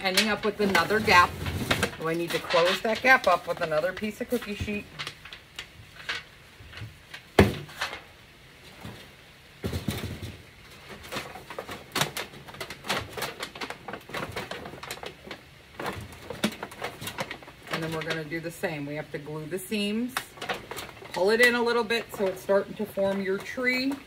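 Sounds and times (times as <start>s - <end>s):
aluminum sheet crinkling: 0.0s - 24.0s.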